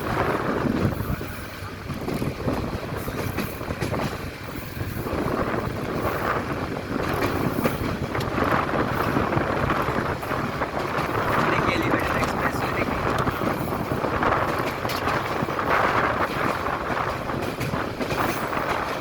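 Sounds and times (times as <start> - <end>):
train wheels rumbling on rails: 0.0 - 19.0
wind noise: 0.0 - 19.0.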